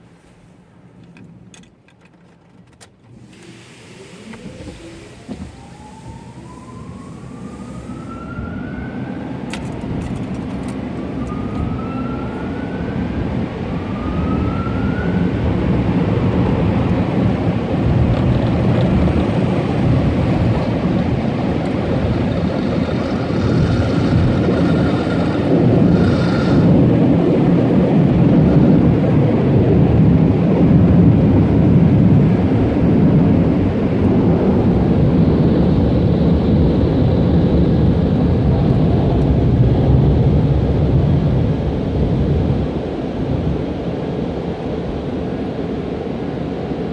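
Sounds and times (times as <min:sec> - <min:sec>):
car wash loud rushing noise: 0:03.0 - 0:46.9
car wash machine rising whines: 0:03.0 - 0:46.9.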